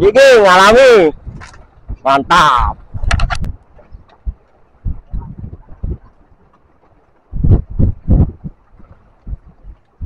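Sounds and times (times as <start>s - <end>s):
dull low thumps: 1.1s - 6.4s, 7.2s - 10.0s.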